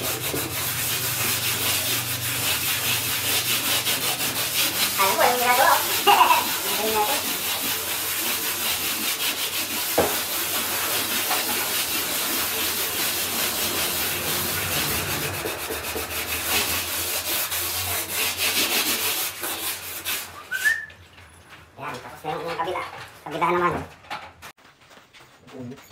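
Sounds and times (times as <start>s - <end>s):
sanding block scratching wall: 0.0s - 24.5s.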